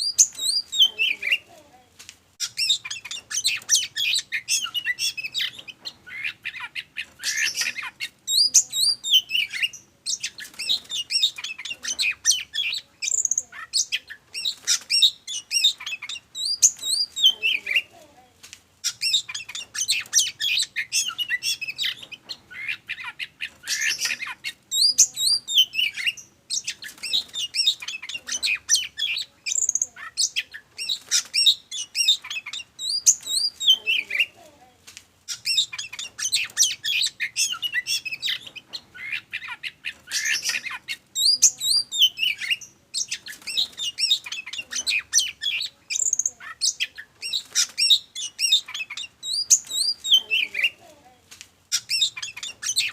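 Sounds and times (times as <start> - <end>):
songbird whistles and trills: 0.0 - 1.5, 2.4 - 17.9, 18.8 - 34.4, 35.3 - 50.8.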